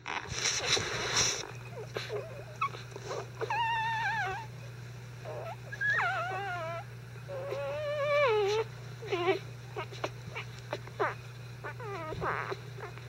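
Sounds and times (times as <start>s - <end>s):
puppies whimpering: 0.7s - 13.0s.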